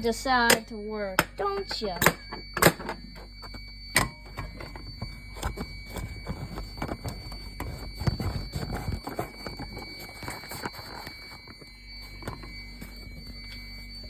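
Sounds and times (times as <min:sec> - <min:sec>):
faint high-pitched tone: 0:00.0 - 0:14.0.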